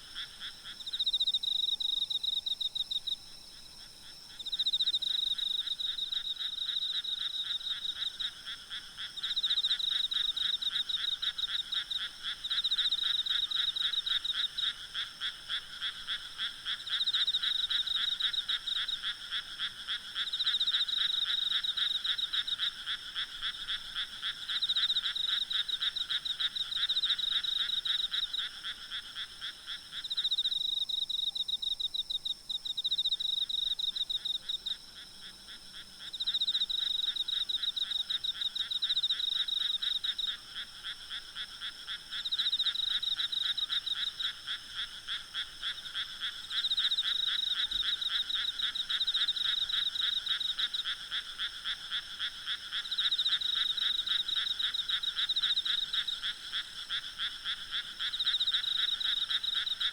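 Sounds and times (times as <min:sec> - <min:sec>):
frogs croaking: 0:00.0 - 0:59.9
high hum of insects: 0:00.0 - 0:59.9.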